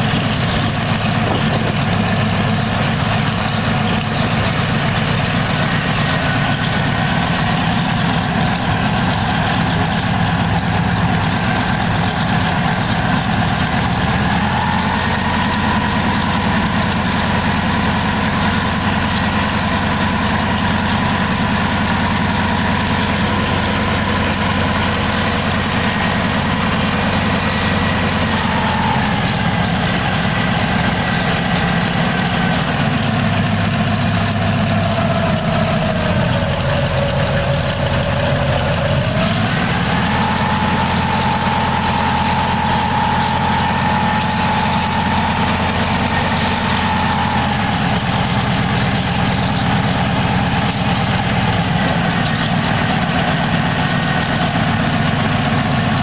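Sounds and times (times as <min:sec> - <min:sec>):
radial aircraft engine running: 0:00.0 - 0:56.0.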